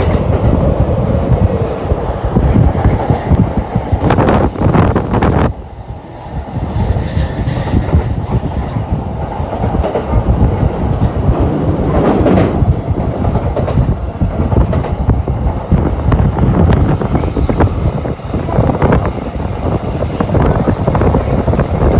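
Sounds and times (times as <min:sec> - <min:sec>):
train wheels rumbling on rail: 0:00.0 - 0:21.9.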